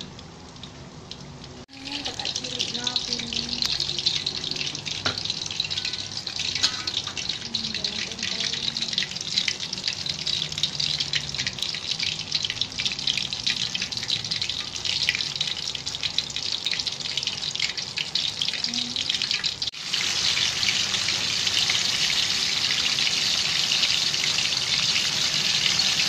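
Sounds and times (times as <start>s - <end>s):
fritters deep-frying in hot oil: 0.0s - 26.0s.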